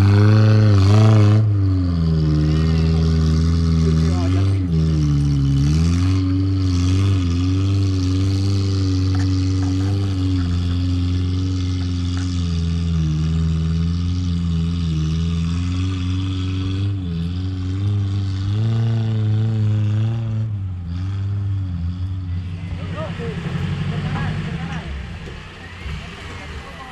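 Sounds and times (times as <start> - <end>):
off-road vehicle engine revving: 0.0 - 26.9.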